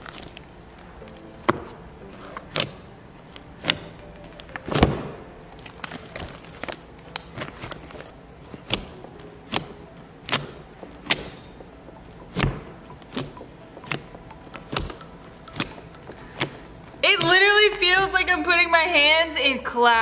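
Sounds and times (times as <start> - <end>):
slime popping and squelching: 0.0 - 17.5.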